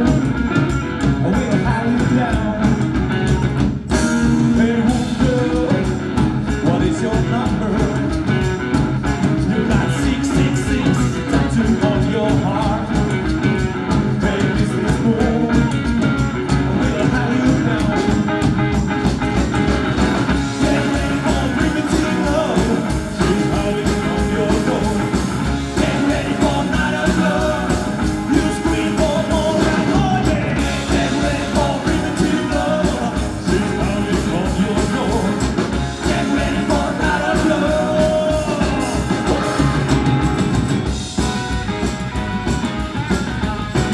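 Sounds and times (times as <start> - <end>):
man singing lead: 0.0 - 3.3, 3.9 - 18.8, 20.2 - 40.3
drums: 0.0 - 43.9
electric and acoustic guitars: 0.0 - 43.9
upright bass: 0.0 - 43.9.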